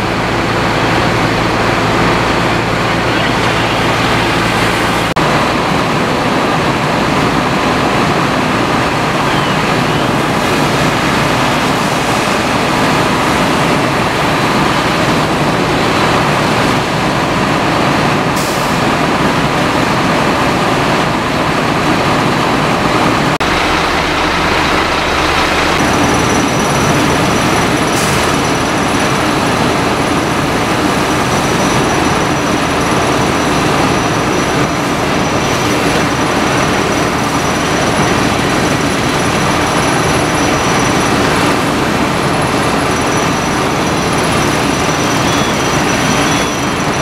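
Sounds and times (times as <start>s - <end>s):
diesel engines running: 0.0s - 47.0s
water rushing from hoses: 0.0s - 47.0s.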